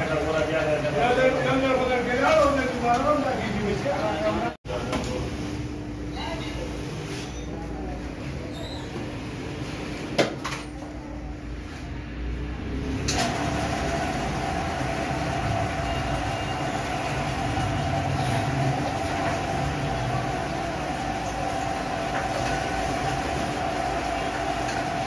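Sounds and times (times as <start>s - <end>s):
mechanical hum with low rumble: 0.0s - 25.0s.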